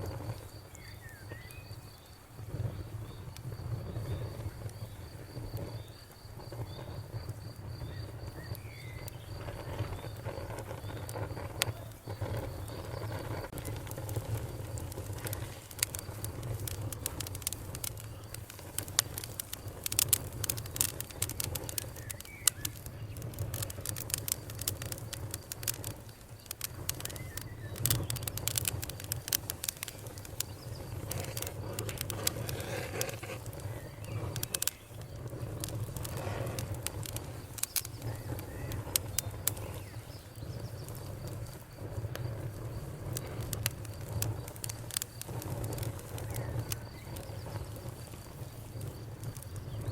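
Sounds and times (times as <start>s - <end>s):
burning wood snapping and popping: 0.0s - 49.9s
campfire crackling: 0.0s - 49.9s
low rumble of flames: 0.0s - 49.9s.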